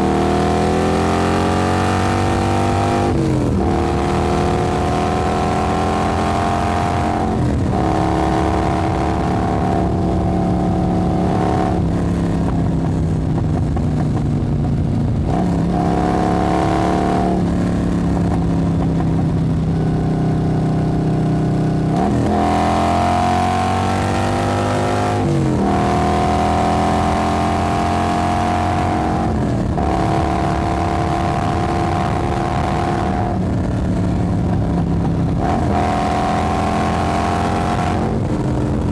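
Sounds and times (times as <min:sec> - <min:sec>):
motorcycle engine revving: 0:00.0 - 0:38.9
motorcycle engine running: 0:00.0 - 0:38.9.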